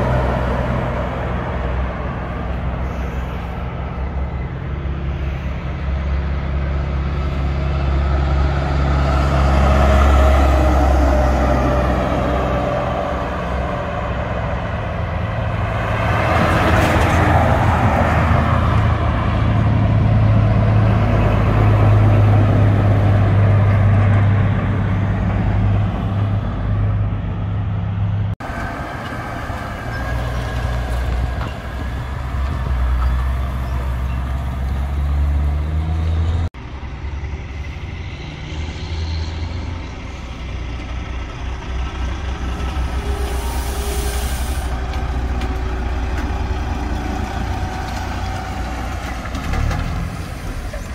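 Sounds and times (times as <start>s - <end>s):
diesel truck driving past: 0.0s - 50.9s
truck pulling out slowly: 0.0s - 50.9s.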